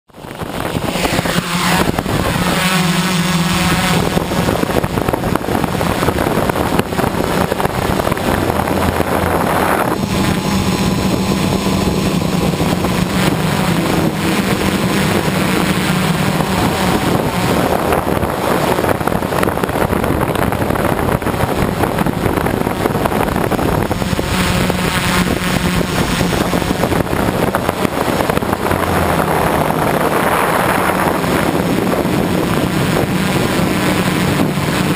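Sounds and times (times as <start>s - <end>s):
quadcopter motors humming: 0.1s - 34.9s
rush of air: 0.1s - 34.9s.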